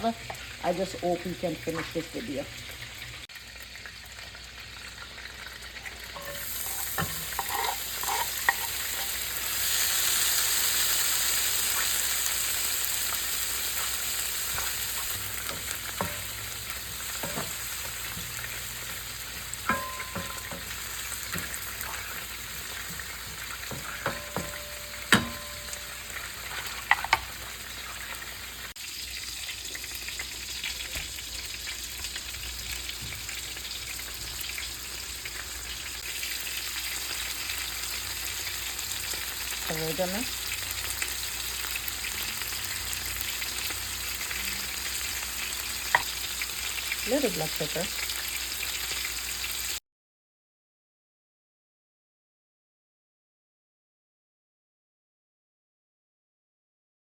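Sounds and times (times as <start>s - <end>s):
vegetables sizzling in a pan: 0.0s - 49.8s.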